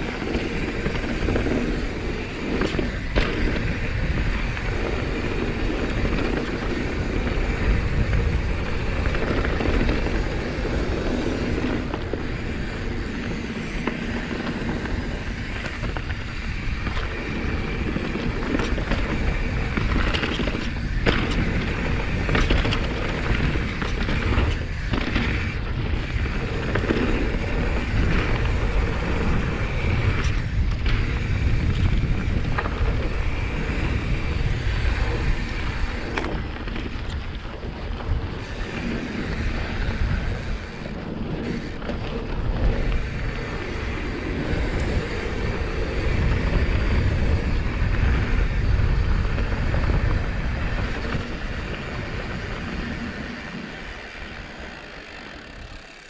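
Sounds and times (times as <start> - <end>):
bike knocks and rattles: 0.0 - 56.0
wind noise on microphone: 0.0 - 56.0.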